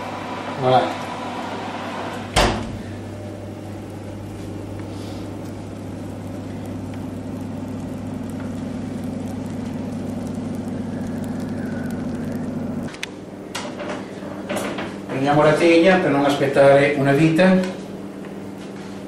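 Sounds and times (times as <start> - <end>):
appliance electric motor humming: 0.0 - 19.0.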